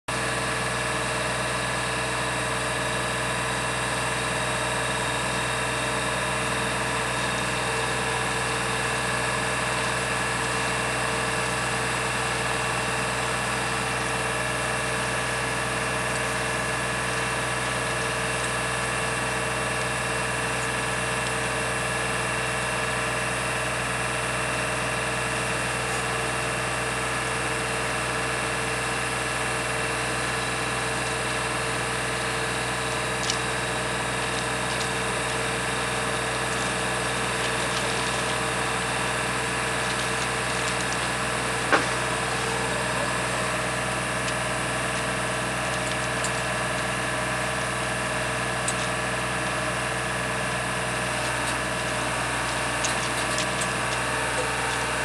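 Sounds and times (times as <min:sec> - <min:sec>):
engine idling drone: 0:00.1 - 0:55.0.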